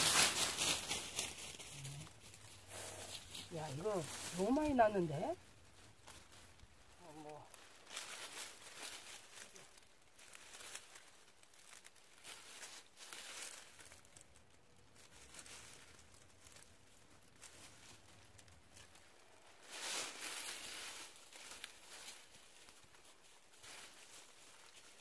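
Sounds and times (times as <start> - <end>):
dry leaves rustling: 0.0 - 25.0.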